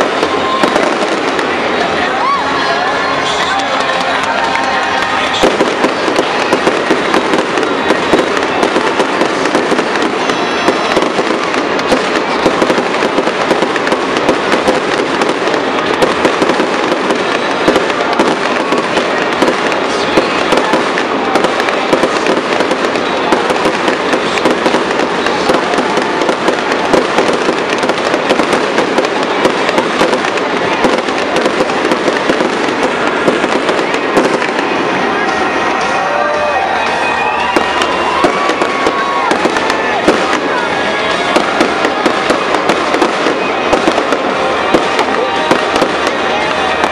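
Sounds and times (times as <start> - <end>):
fireworks crackling and banging: 0.0 - 46.9.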